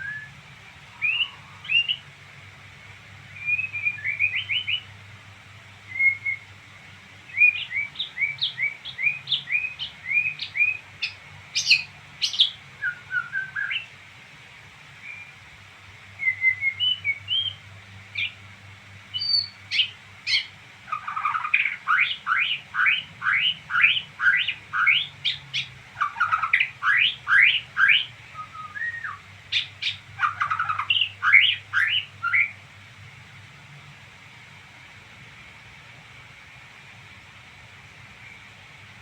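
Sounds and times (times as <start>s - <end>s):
songbird chirping: 0.0s - 14.0s, 14.8s - 33.2s, 38.0s - 39.0s.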